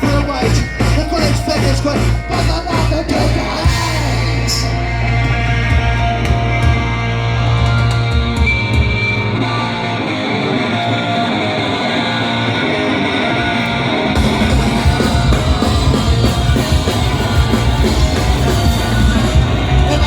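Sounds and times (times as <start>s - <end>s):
electric guitar playing alone: 0.0s - 20.0s
punk band playing: 0.0s - 20.0s.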